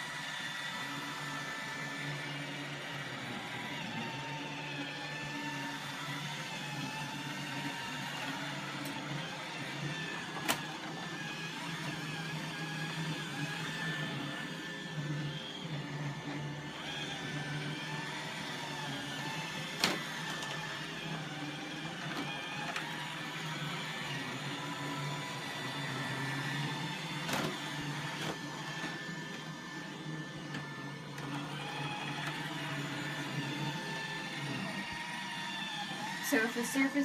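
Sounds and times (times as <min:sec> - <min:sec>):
robot vacuum motor whirr: 0:00.0 - 0:37.0.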